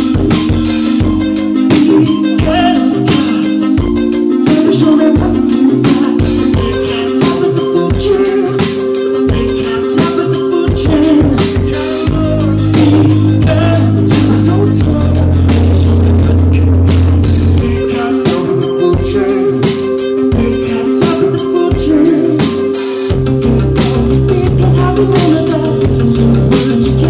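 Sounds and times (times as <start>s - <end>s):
drum kit beat: 0.0s - 27.0s
synth keyboards: 0.0s - 27.0s
male vocal singing: 1.7s - 3.8s, 4.4s - 16.9s, 17.6s - 27.0s.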